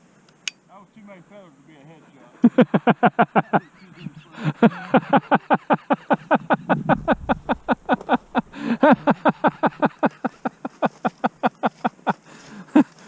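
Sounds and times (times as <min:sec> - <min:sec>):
man laughing hard: 0:02.4 - 0:13.0.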